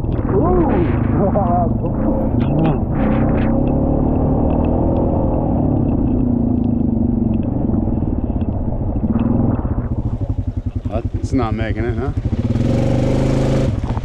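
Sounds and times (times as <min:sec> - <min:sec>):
quad engine running under load: 0:00.0 - 0:14.0.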